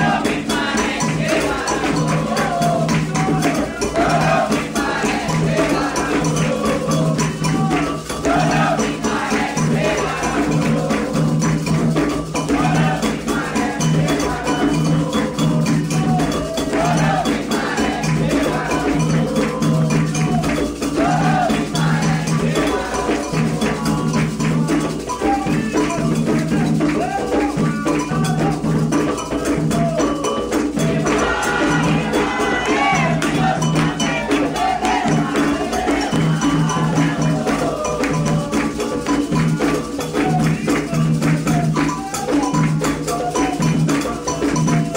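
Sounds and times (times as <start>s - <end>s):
hand drums fast rhythm: 0.0s - 44.9s
metal bell: 0.0s - 44.9s
people singing: 0.0s - 44.9s.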